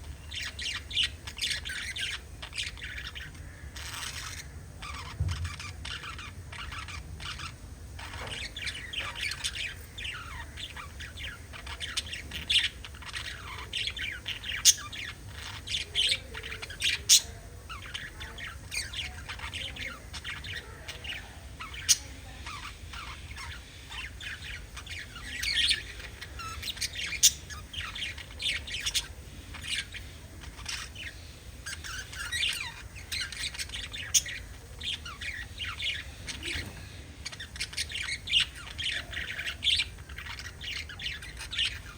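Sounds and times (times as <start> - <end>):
parrots chirping and chattering: 0.0 - 41.9.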